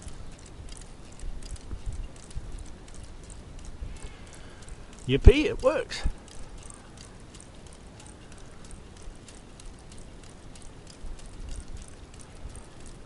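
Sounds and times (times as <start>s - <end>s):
plastic ratchet clicking: 0.0s - 13.0s.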